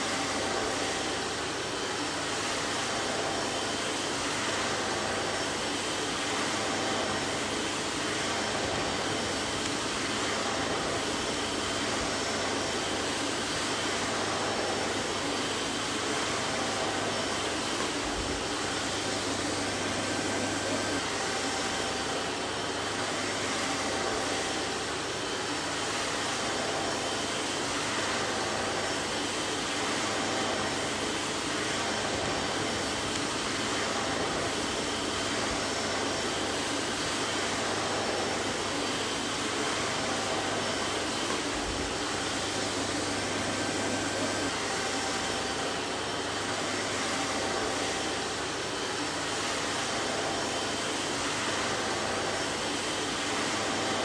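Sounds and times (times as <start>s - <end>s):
vacuum cleaner air rush: 0.0s - 54.0s.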